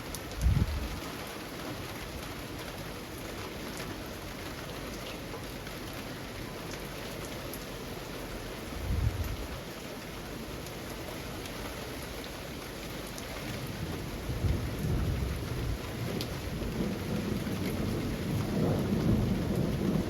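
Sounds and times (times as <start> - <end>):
rain falling on leaves: 0.0 - 20.0.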